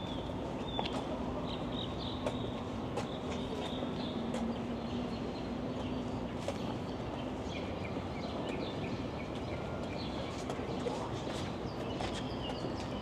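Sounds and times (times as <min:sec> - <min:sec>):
city background noise: 0:00.0 - 0:13.0.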